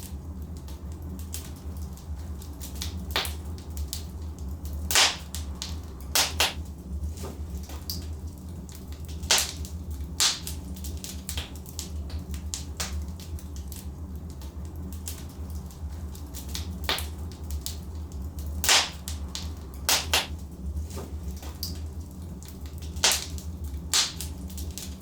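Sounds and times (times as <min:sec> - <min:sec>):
steady low rumble: 0:00.0 - 0:25.0
wood fire crackling and popping: 0:00.0 - 0:25.0.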